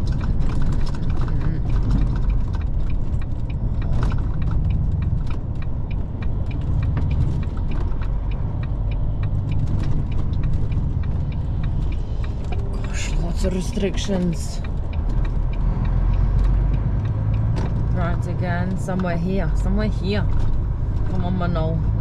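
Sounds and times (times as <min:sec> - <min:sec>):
lorry engine and road rumble: 0:00.0 - 0:22.0.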